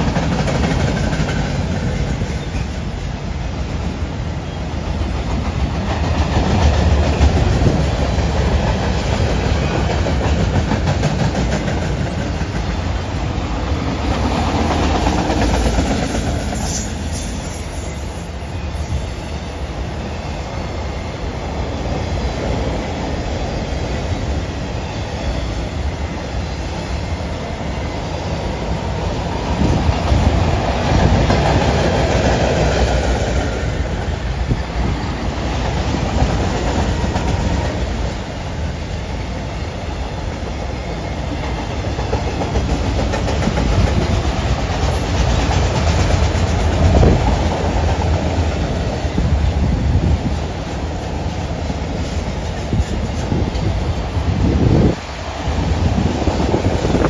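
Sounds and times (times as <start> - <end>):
freight train wheels rumbling and clacking: 0.0 - 57.0.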